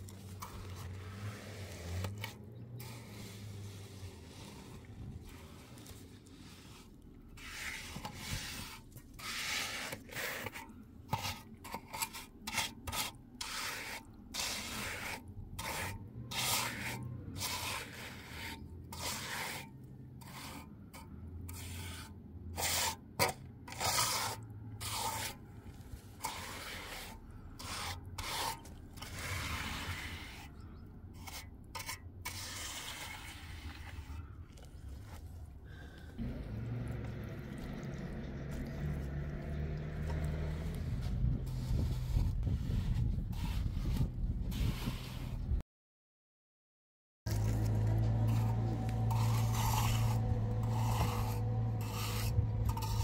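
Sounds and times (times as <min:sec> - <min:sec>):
trowel scraping cement: 0:00.0 - 0:45.6, 0:47.3 - 0:53.0.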